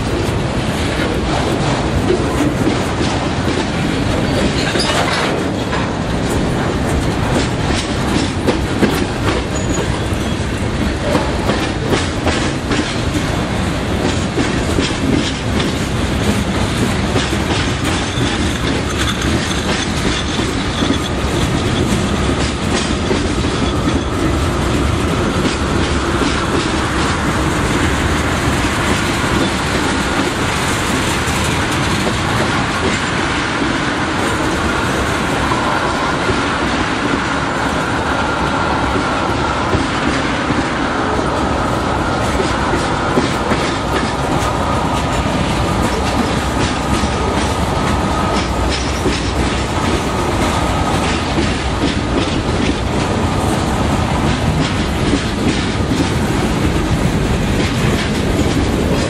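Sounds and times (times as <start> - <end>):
train wheels clacking on rail joints: 0.0 - 59.0.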